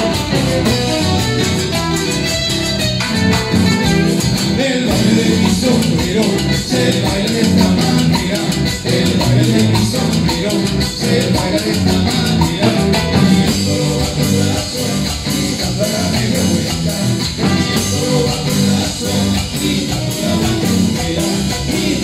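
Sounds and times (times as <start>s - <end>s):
electric bass: 0.0s - 22.0s
shaker rhythm: 0.0s - 22.0s
strummed guitars: 0.0s - 22.0s.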